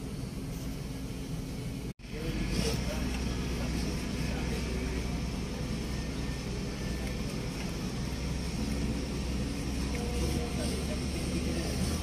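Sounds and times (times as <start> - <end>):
constant hum: 0.0 - 12.0
low machinery rumble: 0.0 - 12.0.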